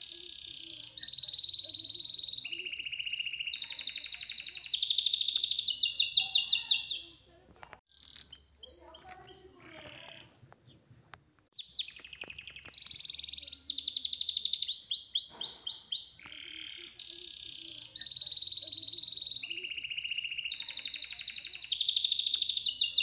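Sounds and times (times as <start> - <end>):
songbird trilling: 0.0 - 7.2, 7.9 - 10.8, 11.6 - 23.0.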